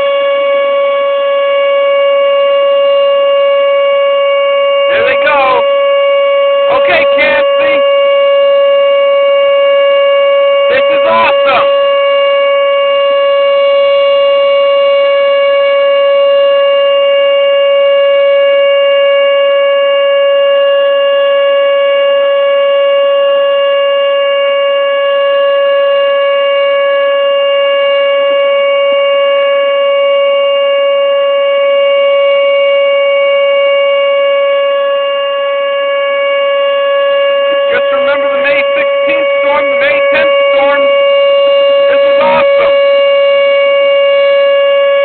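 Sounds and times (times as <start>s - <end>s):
warning siren steady tone: 0.0s - 45.0s.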